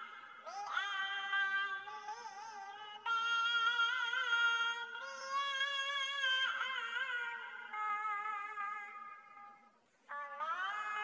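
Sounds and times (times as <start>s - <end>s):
synthetic singing voice: 0.0s - 11.0s.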